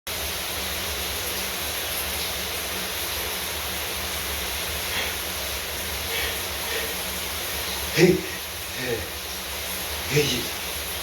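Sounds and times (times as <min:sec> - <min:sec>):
shower water spray: 0:00.1 - 0:11.0.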